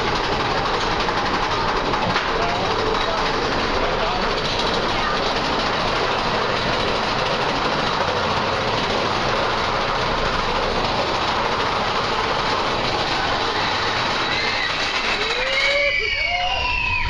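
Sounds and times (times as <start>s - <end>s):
roller coaster rumble and rattle: 0.0s - 17.0s.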